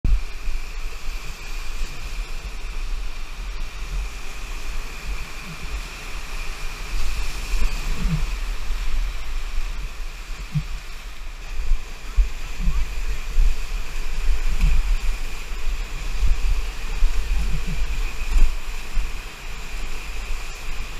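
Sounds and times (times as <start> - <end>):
wind buffeting microphone: 0.0 - 20.9
whitewater rapids roaring: 0.1 - 20.9.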